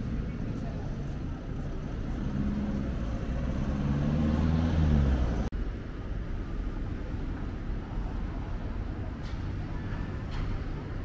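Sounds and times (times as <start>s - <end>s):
road rumble: 0.0s - 11.0s
vehicle engine hum: 0.0s - 11.0s.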